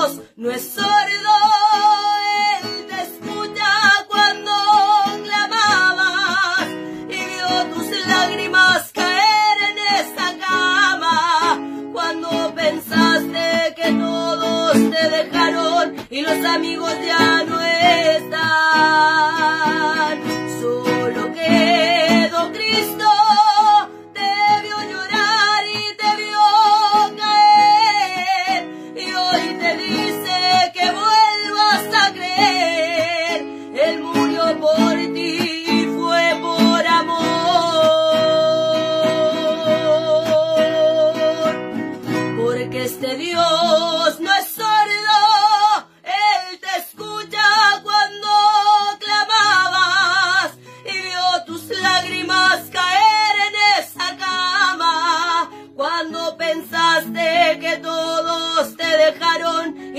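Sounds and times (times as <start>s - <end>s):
acoustic guitar strumming: 0.0s - 59.9s
woman singing: 0.0s - 59.9s.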